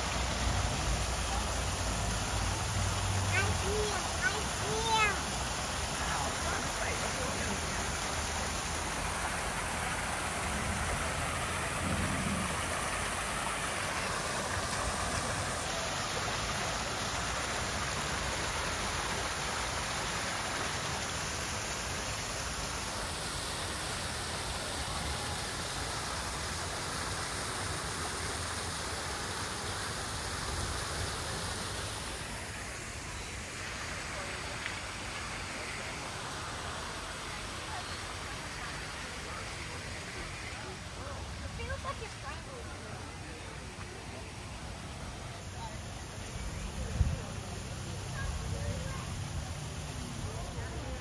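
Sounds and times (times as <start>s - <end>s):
waterfall splashing into pond: 0.0s - 51.0s.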